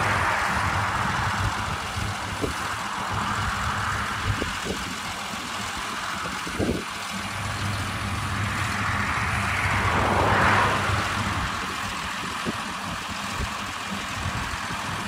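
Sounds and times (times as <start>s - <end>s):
distant combine harvester running: 0.0s - 15.0s.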